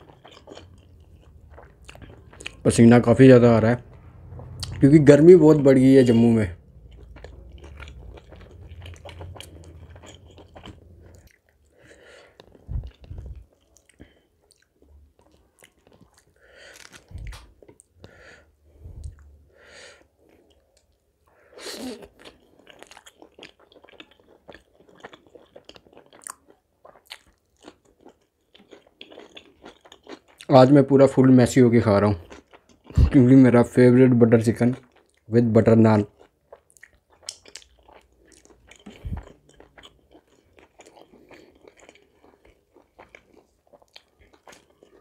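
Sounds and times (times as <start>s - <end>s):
person chewing food: 0.0s - 3.0s, 3.8s - 4.8s, 6.6s - 30.5s, 32.1s - 33.2s, 34.8s - 35.3s, 36.1s - 45.0s.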